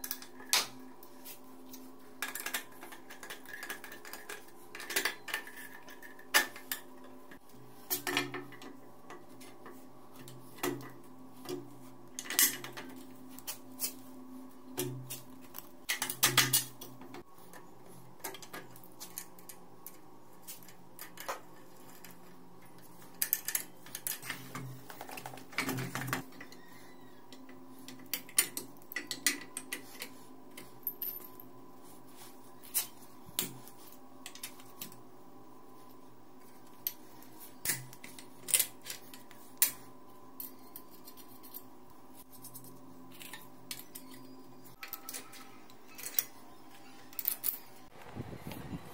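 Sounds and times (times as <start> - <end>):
faint hum: 0.0 - 48.9.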